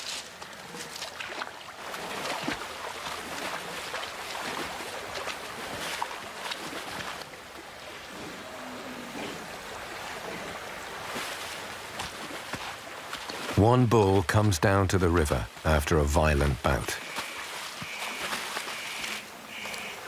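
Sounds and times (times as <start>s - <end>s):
splashes of wading animal: 0.0s - 13.6s, 17.0s - 20.0s
river running over stones: 0.0s - 20.0s.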